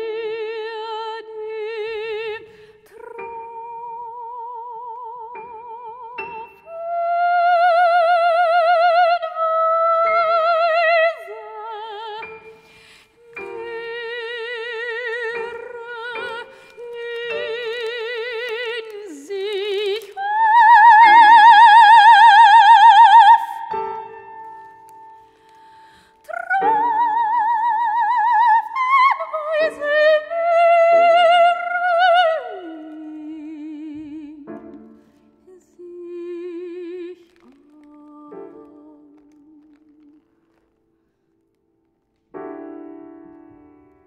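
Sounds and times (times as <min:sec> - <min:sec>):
operatic soprano singing: 0:00.0 - 0:25.0, 0:26.0 - 0:40.2.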